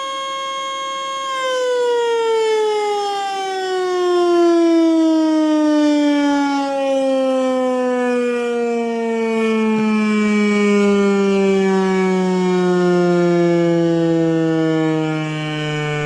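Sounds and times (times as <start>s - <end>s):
warning siren winding down: 0.0s - 16.0s.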